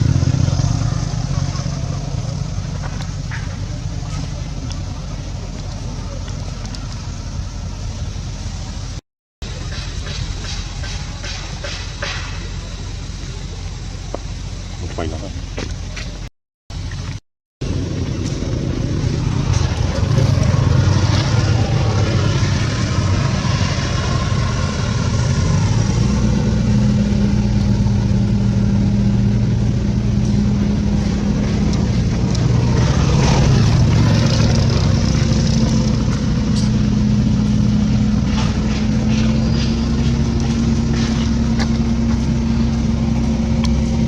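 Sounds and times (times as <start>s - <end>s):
engine running steadily: 0.0s - 44.0s.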